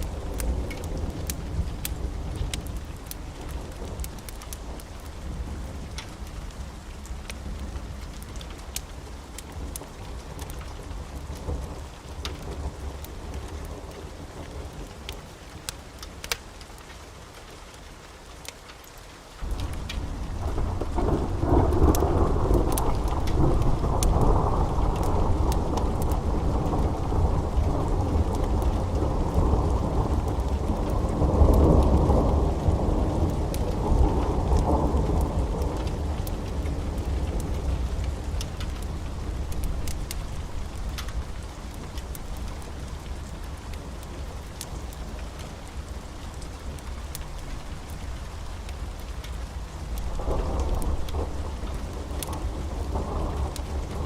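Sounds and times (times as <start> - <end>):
low rumble of thunder: 0.0 - 15.2, 19.4 - 54.0
sharp crackles: 0.0 - 17.6, 18.3 - 54.0
steady rain: 0.0 - 54.0.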